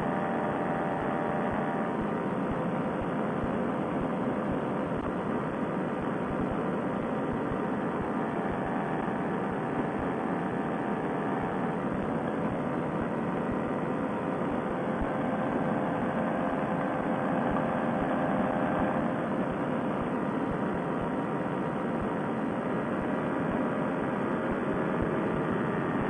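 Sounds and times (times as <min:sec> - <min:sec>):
paramotor engine and propeller drone: 0:00.0 - 0:26.0.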